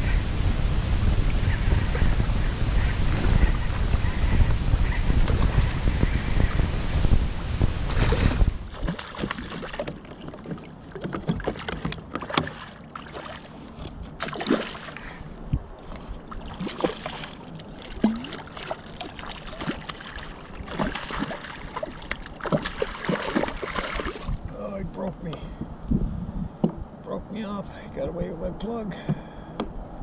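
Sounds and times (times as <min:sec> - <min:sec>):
water lapping against kayak hull: 0:00.0 - 0:26.9.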